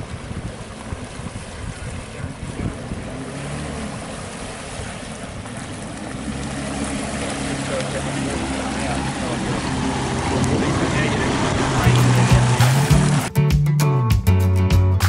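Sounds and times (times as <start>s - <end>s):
outboard motor running: 0.0s - 13.3s
water splashing off hull: 0.0s - 13.3s
wind: 0.0s - 13.3s.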